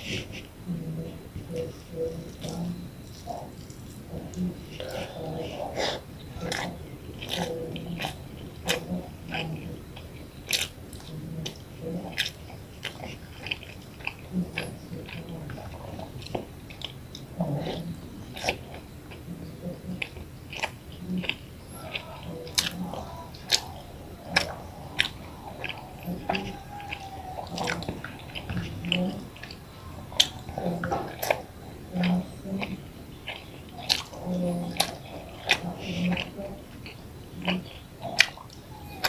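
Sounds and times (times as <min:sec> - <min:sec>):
close chewing mouth smacks: 0:01.4 - 0:39.0.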